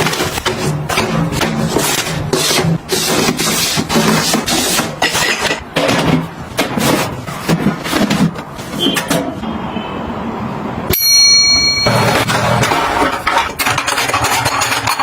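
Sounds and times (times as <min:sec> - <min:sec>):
kitchen items knocking and rattling: 0:00.0 - 0:09.4, 0:11.8 - 0:15.0.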